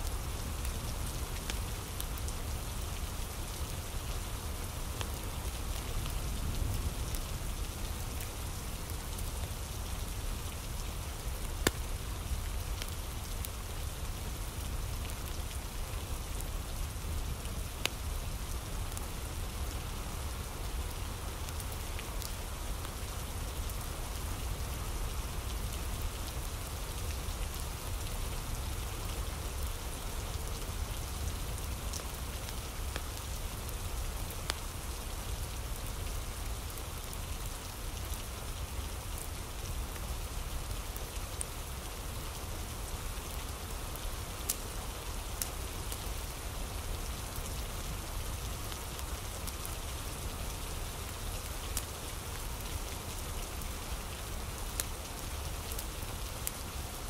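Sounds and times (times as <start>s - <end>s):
falling rain hiss: 0.0s - 57.0s.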